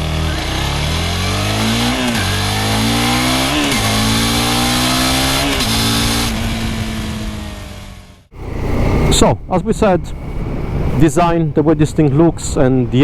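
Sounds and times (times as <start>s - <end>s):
motorcycle engine accelerating: 0.0s - 11.1s.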